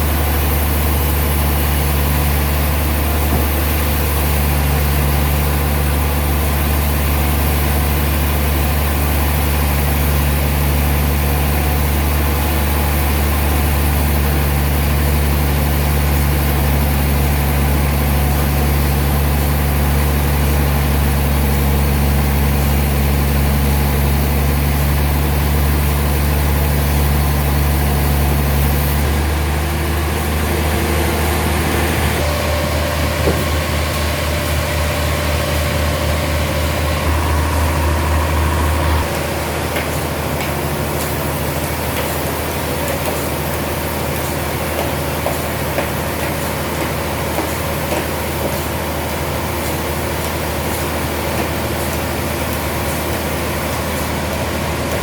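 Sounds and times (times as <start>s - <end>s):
sawmill machinery engine hum: 0.0s - 55.0s.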